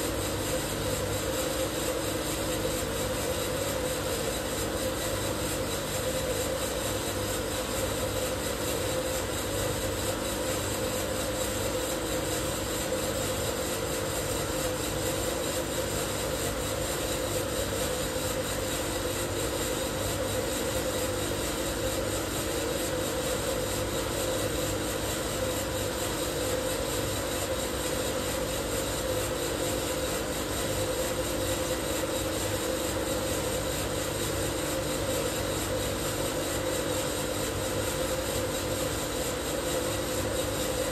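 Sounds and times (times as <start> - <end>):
coffee roaster machine drone: 0.0 - 40.9.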